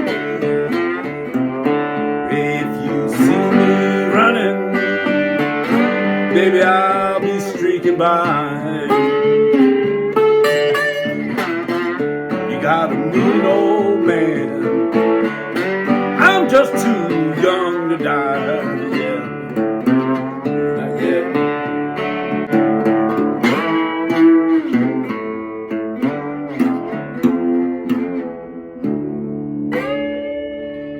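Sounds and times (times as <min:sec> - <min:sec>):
slide guitar blues: 0:00.0 - 0:30.9.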